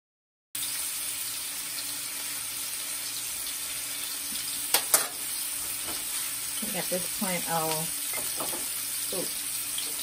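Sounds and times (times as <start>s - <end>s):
meat patties sizzling in a pan: 0.6s - 10.0s.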